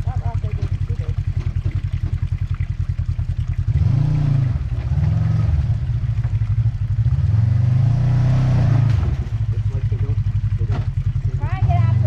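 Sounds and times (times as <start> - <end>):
utility vehicle engine revving: 0.0 - 12.0.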